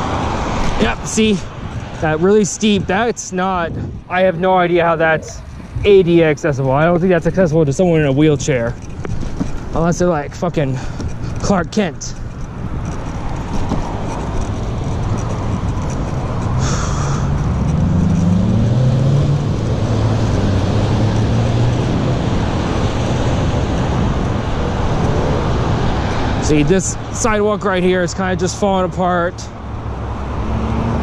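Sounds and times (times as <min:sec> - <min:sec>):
vehicle engine rising: 0:00.0 - 0:26.9
traffic hum: 0:00.0 - 0:31.0.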